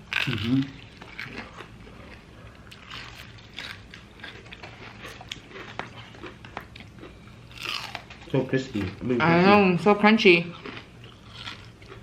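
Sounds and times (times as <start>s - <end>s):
chewing crispy fried chicken: 0.0s - 9.6s, 10.4s - 12.0s.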